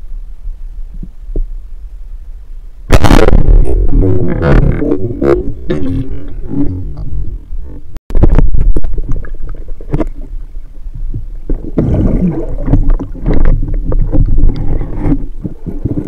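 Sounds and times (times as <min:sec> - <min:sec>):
muffled underwater rumbling: 0:00.0 - 0:16.0.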